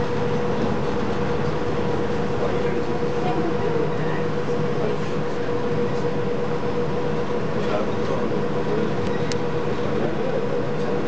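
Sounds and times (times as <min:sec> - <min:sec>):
monorail running noise: 0:00.0 - 0:11.0.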